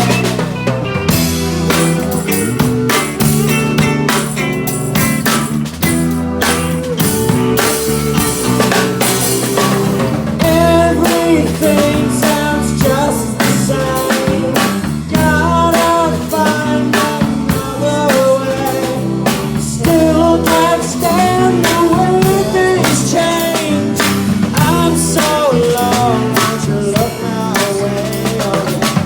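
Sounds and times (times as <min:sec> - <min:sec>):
bending lead guitar melody: 0:00.0 - 0:29.0
drum kit beat: 0:00.0 - 0:29.0
guitar: 0:00.0 - 0:29.0.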